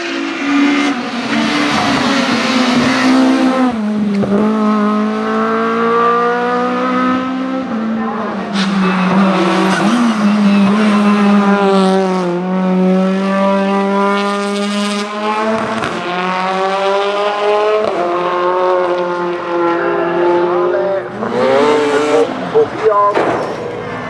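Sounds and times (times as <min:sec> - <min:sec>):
race car engine accelerating: 0:00.0 - 0:22.9.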